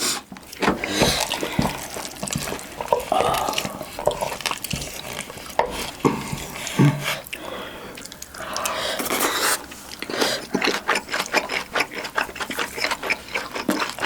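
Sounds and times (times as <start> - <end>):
spoon stirring wet rice: 0.1 - 14.0.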